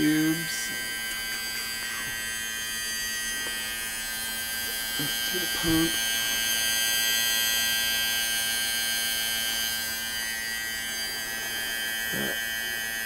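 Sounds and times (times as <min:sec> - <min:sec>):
electric pump buzzing and humming: 0:00.0 - 0:13.0
high whine: 0:00.0 - 0:13.0.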